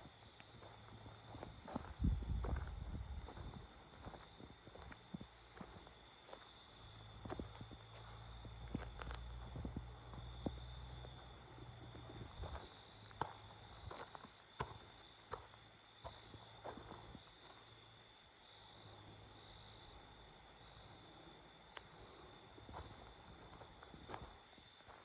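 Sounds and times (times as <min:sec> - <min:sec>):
insect pulsing chirp: 0:00.0 - 0:25.0
insect steady high tone: 0:00.0 - 0:25.0.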